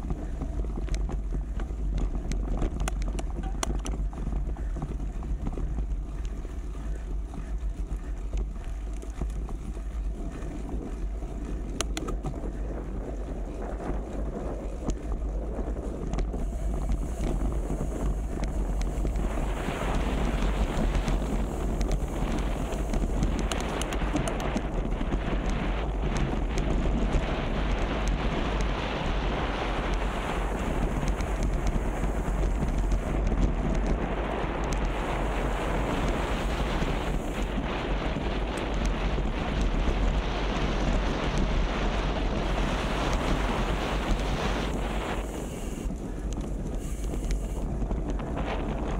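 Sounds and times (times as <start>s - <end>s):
wind buffeting microphone: 0.0s - 48.9s
broad rushing noise: 5.8s - 48.9s.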